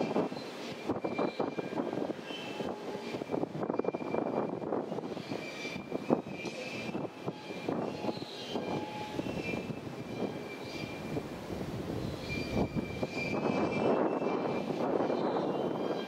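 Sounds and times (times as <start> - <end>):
train rumble: 0.0 - 16.0
high-pitched squeals: 0.8 - 11.2, 12.0 - 16.0.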